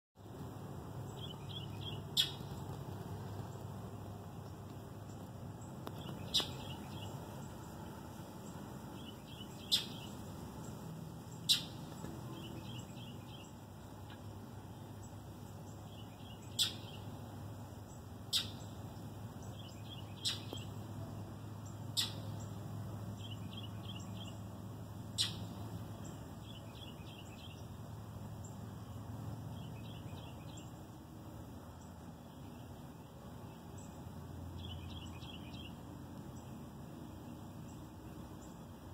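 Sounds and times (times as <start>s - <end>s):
birds chirping: 0.2s - 38.9s
low steady hum: 0.2s - 38.9s.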